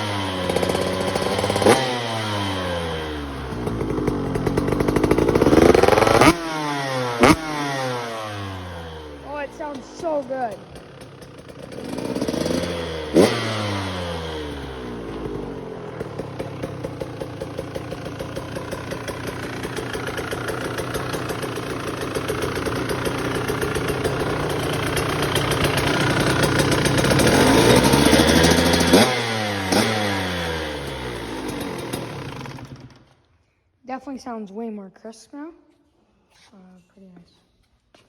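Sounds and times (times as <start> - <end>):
two-stroke dirt bike engine revving: 0.0 - 33.1.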